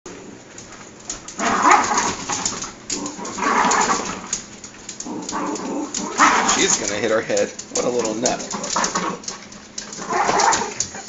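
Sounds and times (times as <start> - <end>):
dog growling: 1.4 - 4.4, 5.0 - 11.0.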